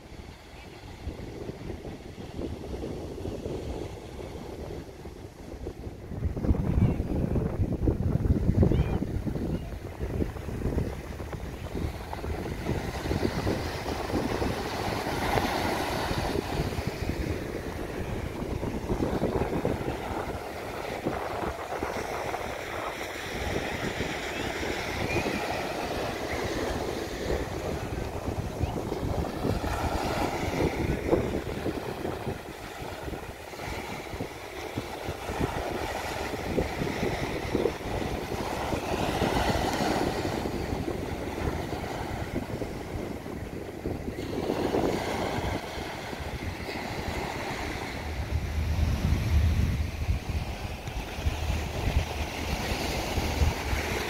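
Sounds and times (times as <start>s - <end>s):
waves breaking on beach: 0.0s - 54.0s
wind rumbling on microphone: 0.0s - 54.0s.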